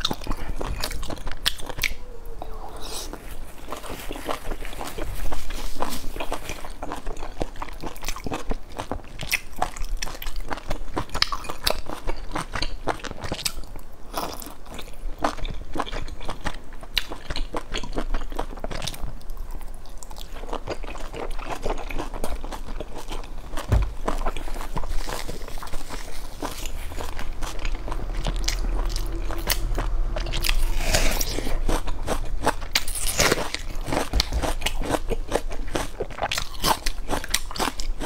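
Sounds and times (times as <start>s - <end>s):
person chewing and crunching food: 0.0s - 38.0s.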